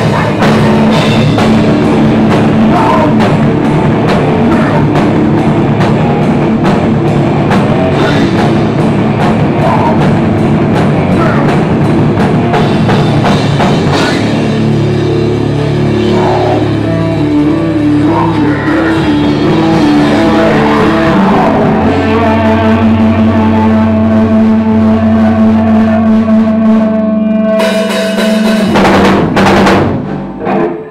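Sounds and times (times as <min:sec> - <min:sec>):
distorted guitar riffs: 0:00.0 - 0:30.9
drum kit: 0:00.0 - 0:30.9
live metal band playing: 0:00.0 - 0:30.9.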